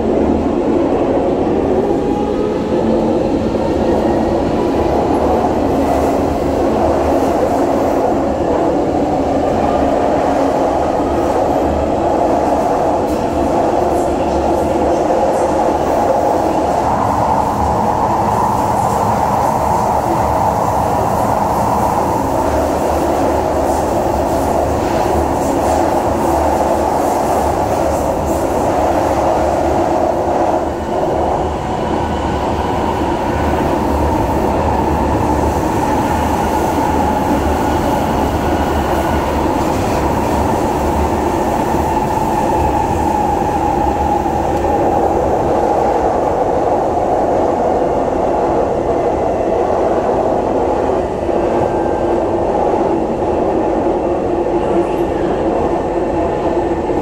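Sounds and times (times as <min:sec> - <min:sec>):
metro train running on rails: 0:00.0 - 0:57.0.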